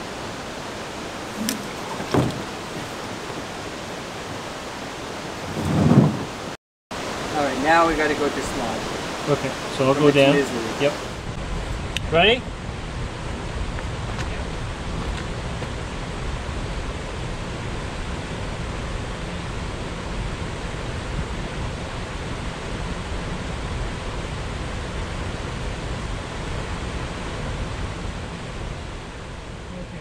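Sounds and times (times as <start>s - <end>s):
waterfall roar: 0.0s - 30.0s.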